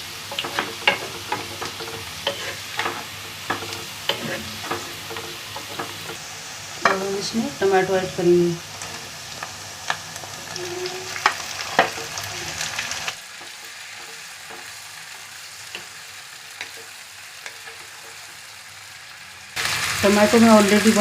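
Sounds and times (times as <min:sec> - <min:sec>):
onions sizzling in a pan: 0:00.0 - 0:21.0.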